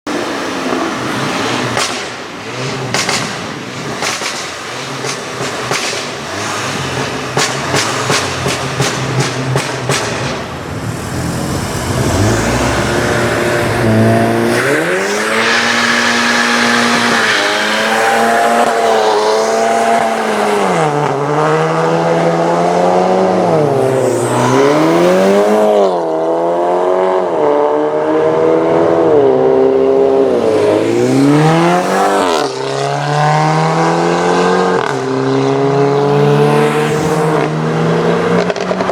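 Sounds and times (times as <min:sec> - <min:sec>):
car engine revving: 0:00.3 - 0:38.9.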